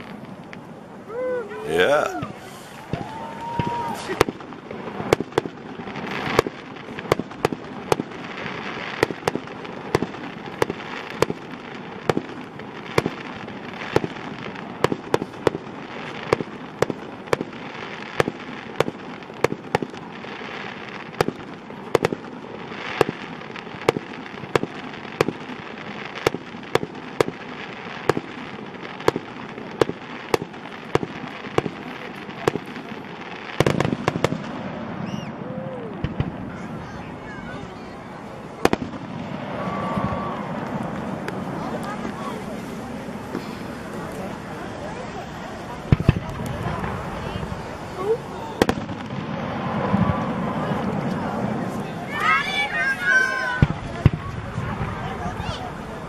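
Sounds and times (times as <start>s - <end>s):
background hiss: 0.0s - 56.0s
fireworks bursting: 0.0s - 56.0s.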